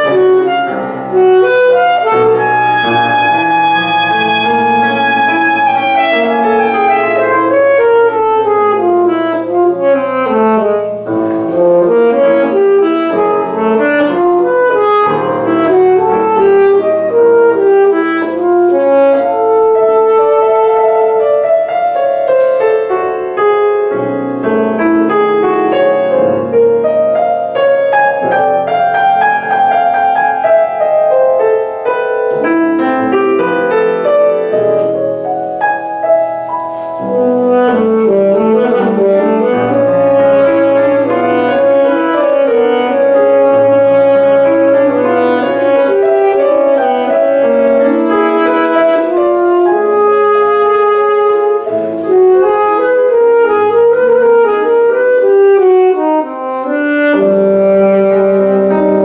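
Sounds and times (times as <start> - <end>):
piano accompaniment: 0.0 - 59.0
saxophone melody: 0.0 - 59.0.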